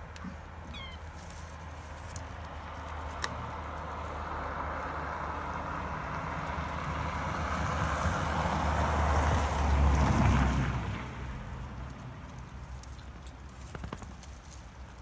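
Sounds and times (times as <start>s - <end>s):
vehicle passing by: 2.4s - 14.5s.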